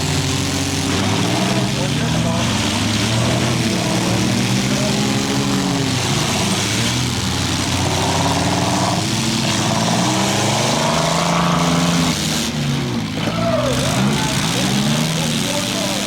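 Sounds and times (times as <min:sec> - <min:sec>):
small car engines revving: 0:00.0 - 0:16.0.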